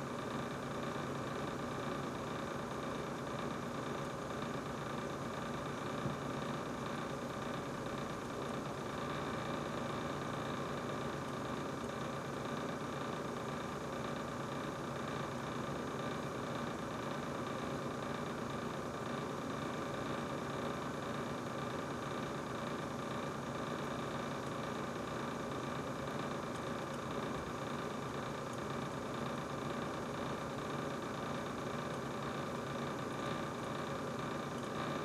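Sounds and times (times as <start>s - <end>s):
refrigerator humming and whining: 0.0s - 35.0s.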